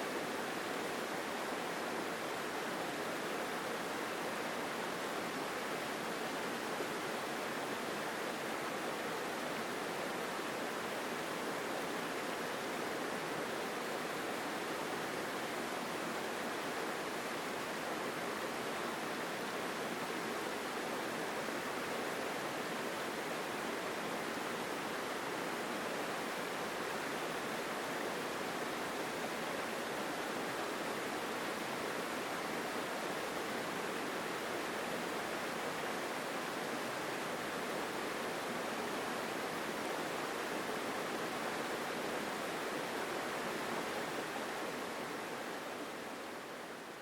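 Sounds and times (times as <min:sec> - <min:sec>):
stream rushing over rocks: 0:00.0 - 0:47.0.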